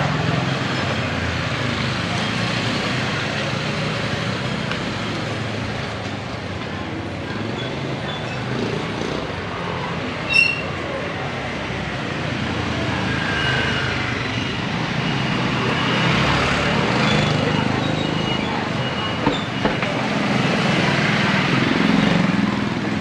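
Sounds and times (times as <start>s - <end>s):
passing traffic: 0.0s - 23.0s.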